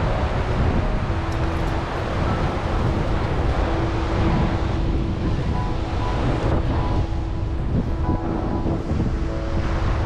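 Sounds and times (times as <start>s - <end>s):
breaking surf: 0.0s - 10.0s
wind buffeting microphone: 0.0s - 10.0s.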